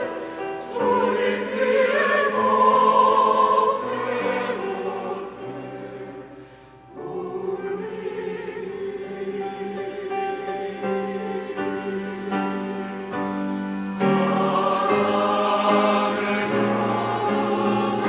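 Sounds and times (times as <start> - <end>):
church choir singing in harmony: 0.0 - 18.0.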